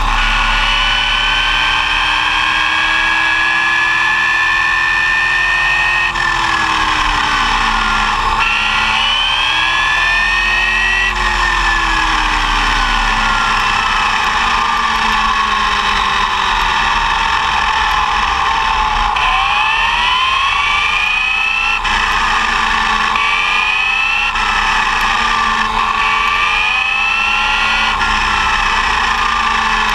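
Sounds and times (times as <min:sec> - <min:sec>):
electric motor whining: 0:00.0 - 0:29.9.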